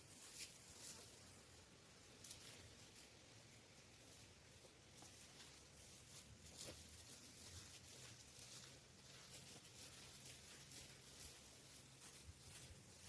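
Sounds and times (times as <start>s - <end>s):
faint background hiss: 0.0s - 13.0s
soft rustles: 0.0s - 13.0s.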